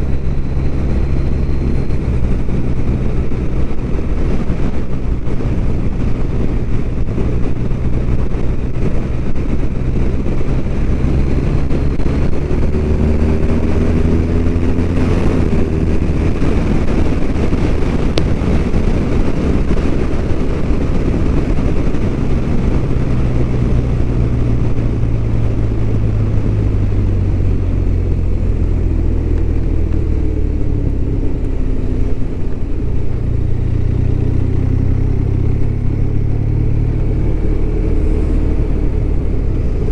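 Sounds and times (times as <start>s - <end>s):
second engine tone gliding: 0.0s - 6.0s, 10.8s - 39.9s
motorcycle engine running: 0.0s - 39.9s
wind and road noise: 0.0s - 39.9s.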